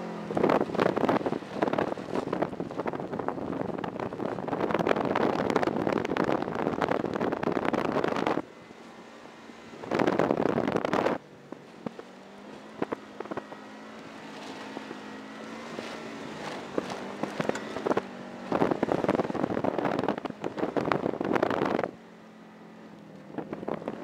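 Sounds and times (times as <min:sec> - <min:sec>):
wind rushing over microphone: 0:00.0 - 0:22.1, 0:23.2 - 0:24.0
car engine running: 0:00.0 - 0:24.0.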